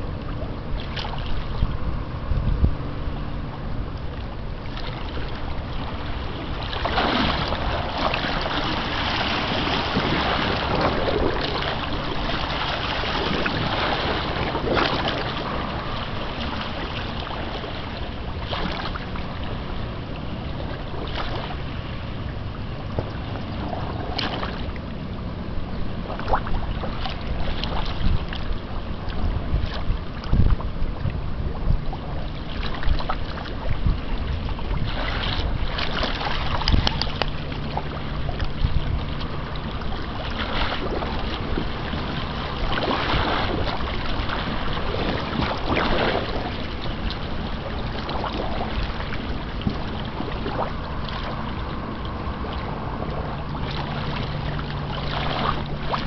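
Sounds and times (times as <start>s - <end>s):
wind buffeting microphone: 0.0s - 56.0s
river water flowing: 3.3s - 30.4s, 32.0s - 56.0s.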